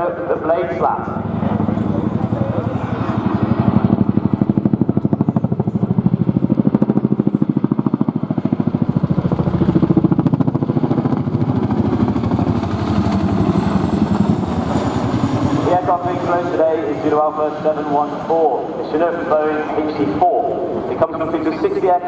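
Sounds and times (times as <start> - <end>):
helicopter rotor blade slap: 0.8 - 20.2.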